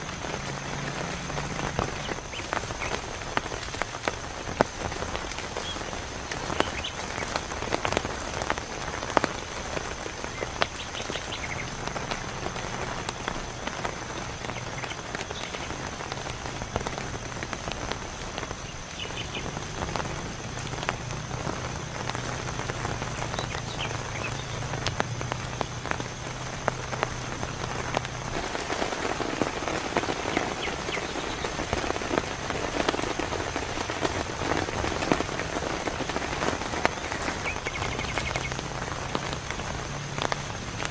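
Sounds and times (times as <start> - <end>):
heavy rain falling: 0.0 - 40.9
raindrops ticking on a surface: 0.0 - 40.9.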